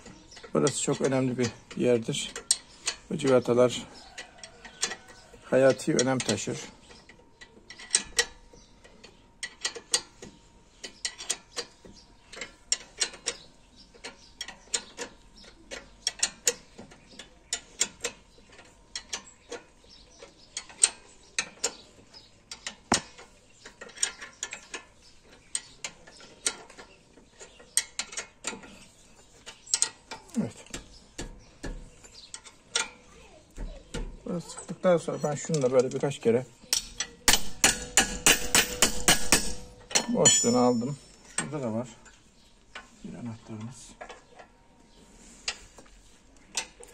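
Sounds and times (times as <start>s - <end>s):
wrench clicking on bolts: 0.3s - 8.4s, 9.1s - 33.7s, 35.5s - 42.2s.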